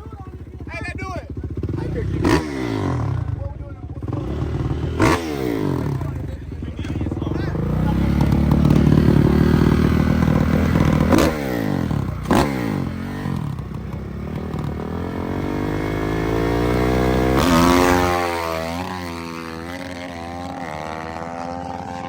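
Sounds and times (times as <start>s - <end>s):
dirt bike engines passing at speed: 0.0s - 22.0s.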